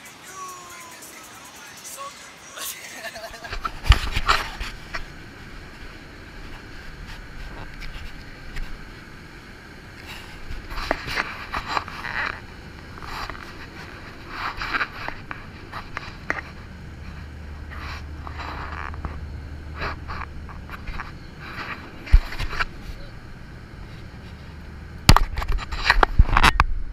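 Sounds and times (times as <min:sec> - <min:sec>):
airliner cabin drone: 0:00.0 - 0:26.9
rustling and scraping: 0:03.0 - 0:09.2, 0:10.0 - 0:26.6.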